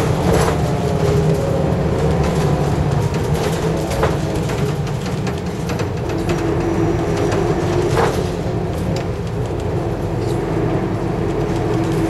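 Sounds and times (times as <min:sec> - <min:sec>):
cabin rattles and clicks: 0:00.0 - 0:10.5
diesel bus engine rumble: 0:00.0 - 0:12.0
engine whine: 0:00.0 - 0:12.0.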